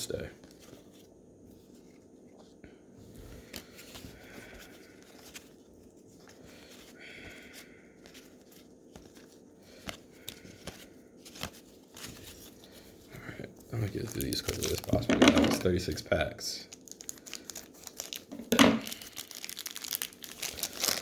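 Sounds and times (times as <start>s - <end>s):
paper rustling: 0.4s - 13.0s, 13.8s - 16.0s, 16.8s - 21.0s.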